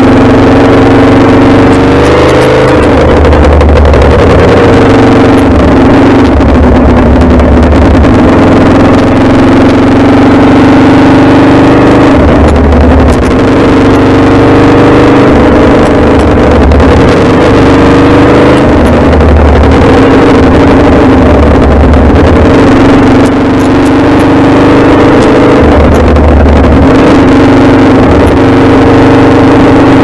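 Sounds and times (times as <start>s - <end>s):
motorcycle engine revving: 0.0s - 30.0s
wind and road noise: 0.0s - 30.0s.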